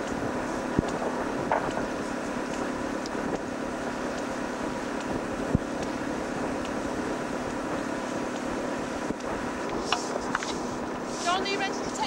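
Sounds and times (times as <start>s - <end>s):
steady hum: 0.0s - 12.0s
wind buffeting microphone: 0.0s - 12.0s.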